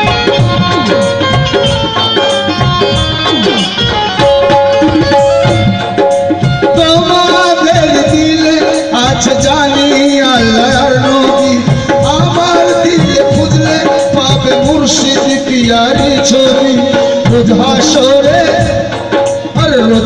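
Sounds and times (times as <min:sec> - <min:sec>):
tabla beat: 0:00.0 - 0:20.0
wavering keyboard melody: 0:00.0 - 0:20.0.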